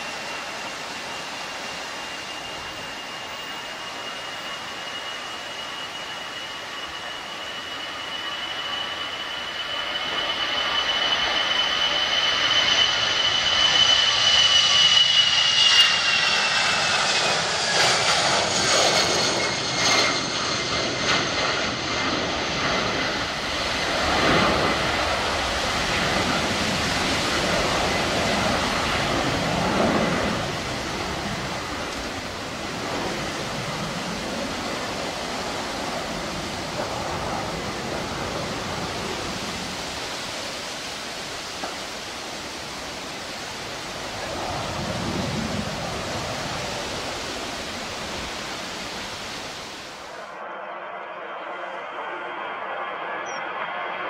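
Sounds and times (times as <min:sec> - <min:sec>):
jet airliner fan whine: 0:00.0 - 0:54.0
jet engine rumble: 0:00.0 - 0:54.0.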